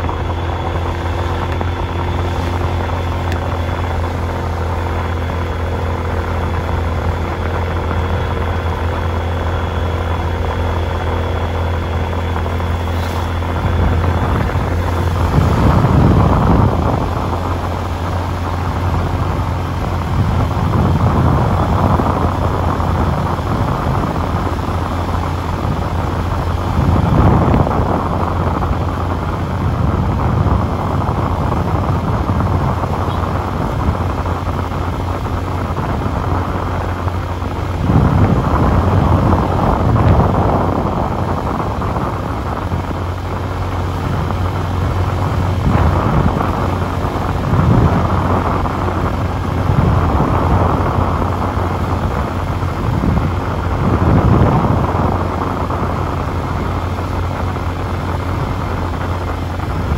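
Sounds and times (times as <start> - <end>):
low engine hum: 0.0 - 59.9
wind buffeting microphone: 0.0 - 59.9.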